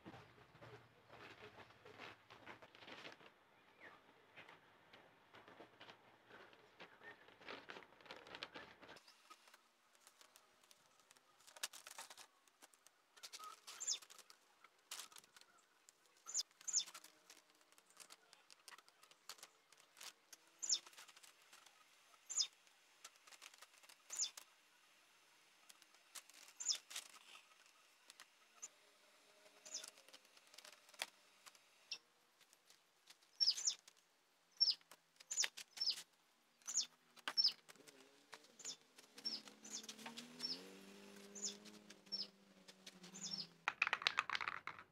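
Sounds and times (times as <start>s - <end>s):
newspaper and tape crackling: 4.4s - 44.8s
small birds chirping: 8.4s - 44.4s.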